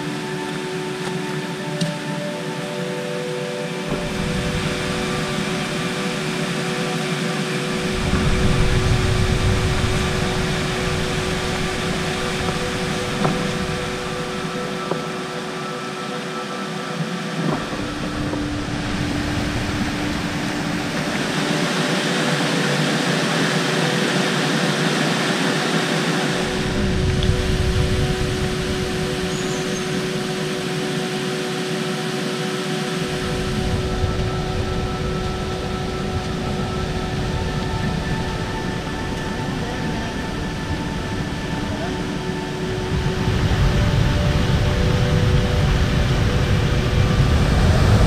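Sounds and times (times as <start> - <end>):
river water rushing: 0.0 - 48.0
soft drone tones: 0.0 - 48.0.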